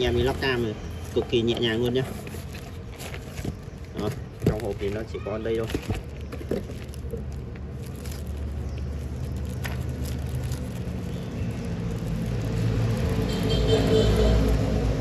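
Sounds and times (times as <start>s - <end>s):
bubble wrap crinkling: 0.0s - 15.0s
vehicle engine rumbling: 0.0s - 15.0s.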